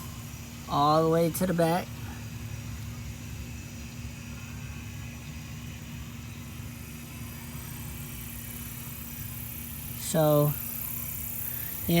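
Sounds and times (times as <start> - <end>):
low mechanical motor hum: 0.0 - 12.0.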